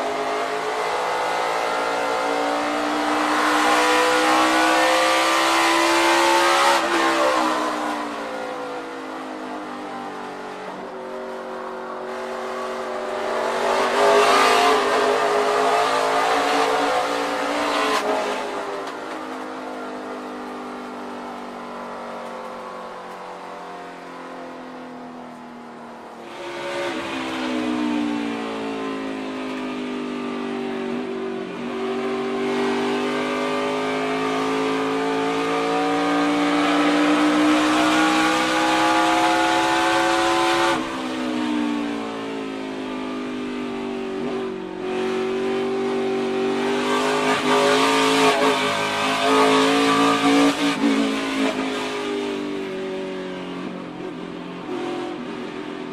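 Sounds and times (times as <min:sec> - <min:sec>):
race car engine at high revs: 0:00.0 - 0:24.9, 0:25.7 - 0:55.9.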